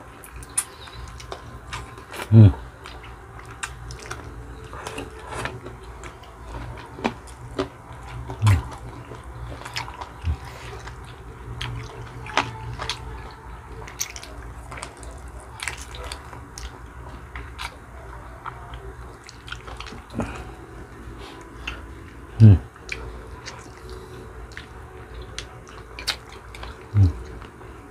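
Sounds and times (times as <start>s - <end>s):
steady low hum: 0.0s - 27.9s
wet chewing and mouth smacks: 0.2s - 17.8s, 18.4s - 20.4s, 22.8s - 27.6s.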